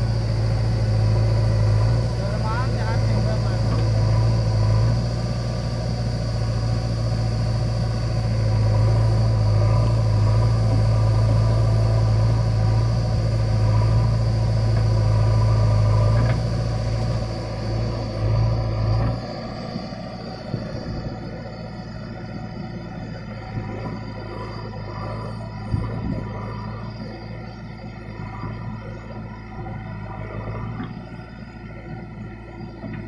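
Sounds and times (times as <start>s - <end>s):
diesel engines droning: 0.0s - 33.0s.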